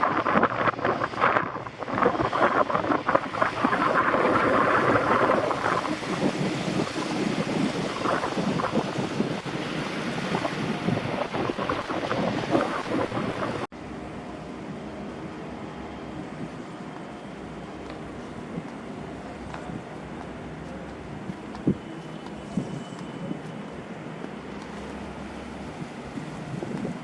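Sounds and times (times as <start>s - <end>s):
rushing outdoor noise: 0.0s - 27.0s
wind buffeting microphone: 0.0s - 27.0s.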